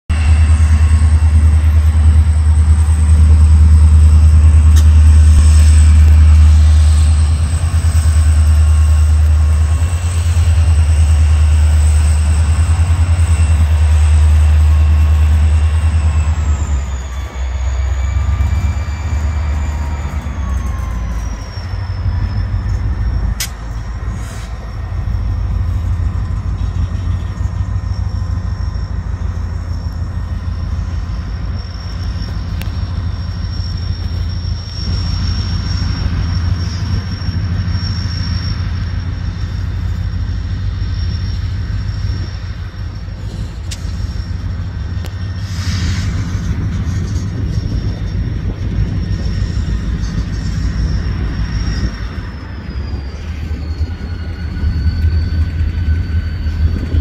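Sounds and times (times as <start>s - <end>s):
locomotive engine drone: 0.0s - 57.0s
high engine whine: 0.1s - 57.0s.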